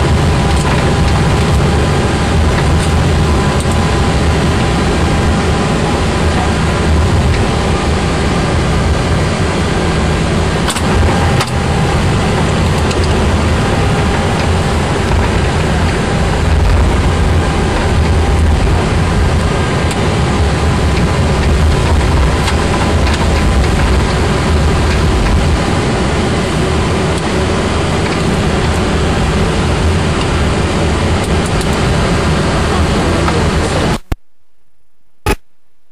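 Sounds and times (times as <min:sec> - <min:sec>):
aircraft cockpit rumble and hiss: 0:00.0 - 0:34.2.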